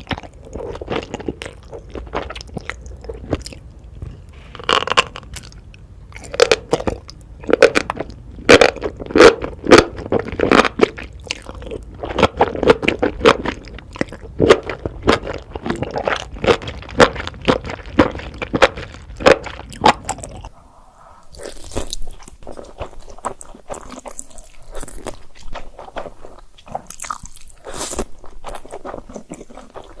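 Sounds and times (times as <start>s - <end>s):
crunchy chewing: 0.0s - 20.5s, 21.3s - 30.0s.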